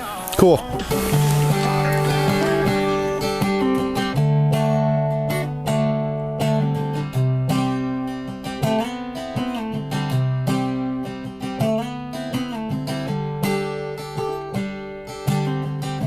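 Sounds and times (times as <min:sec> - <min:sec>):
acoustic guitar strumming chords: 0:00.0 - 0:15.9.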